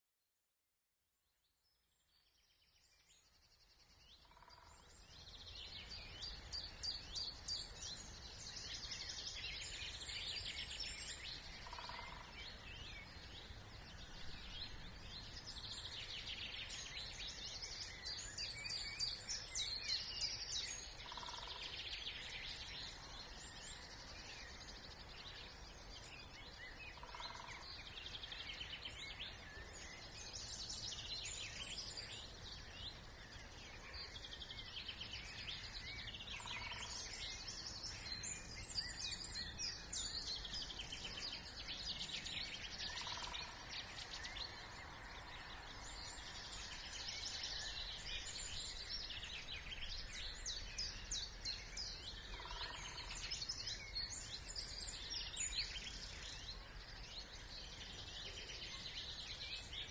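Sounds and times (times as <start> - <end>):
songbirds chorus trilling: 2.9 - 59.9.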